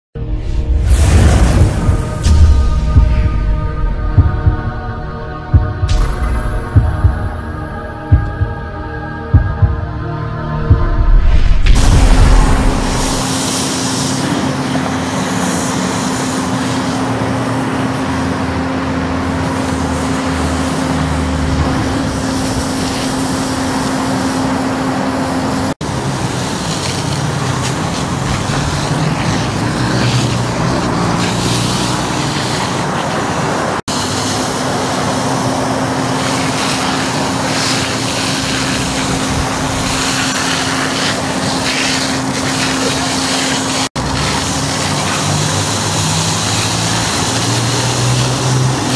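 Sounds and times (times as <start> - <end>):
engine droning: 0.2 - 48.9
freeway traffic noise: 0.4 - 48.9.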